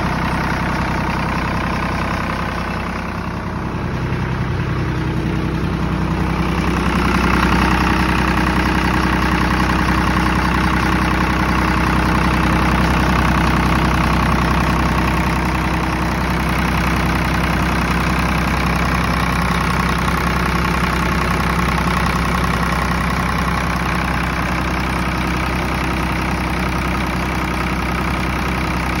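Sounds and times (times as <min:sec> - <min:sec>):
diesel generator engine running: 0:00.0 - 0:29.0.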